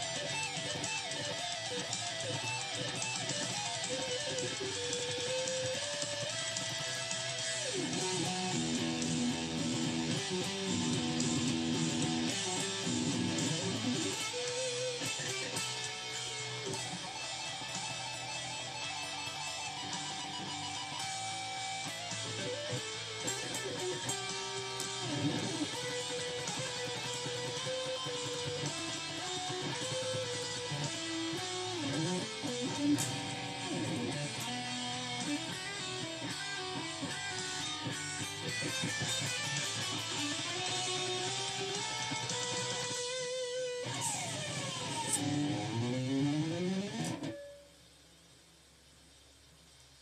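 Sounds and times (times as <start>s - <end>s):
backing track: 0.0s - 47.4s
electric guitar playing: 0.0s - 47.8s.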